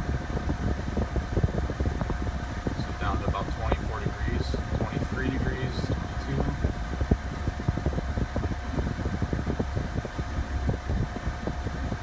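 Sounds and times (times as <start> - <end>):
air-conditioning blower: 0.0 - 12.0
diesel engine running: 0.0 - 12.0.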